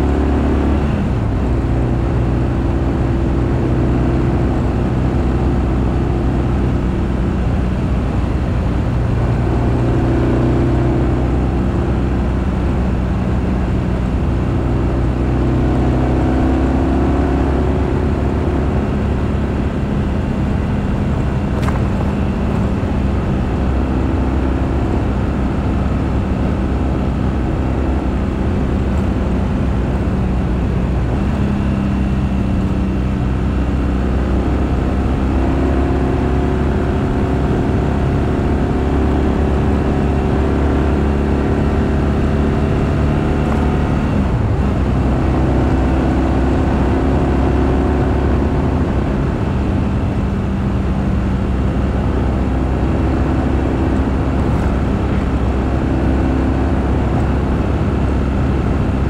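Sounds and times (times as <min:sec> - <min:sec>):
motorcycle engine running: 0:04.4 - 0:59.0.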